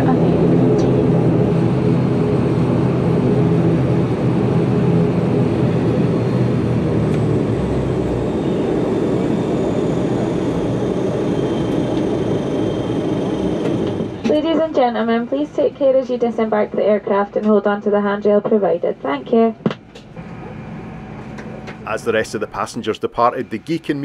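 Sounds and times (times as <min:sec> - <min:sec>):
turboprop engine droning: 0:00.0 - 0:24.0.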